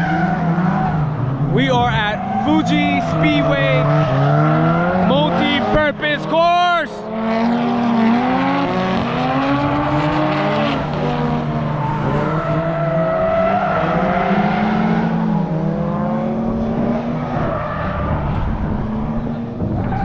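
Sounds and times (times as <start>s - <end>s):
car engines revving: 0.0s - 20.0s
tires squealing: 0.0s - 20.0s.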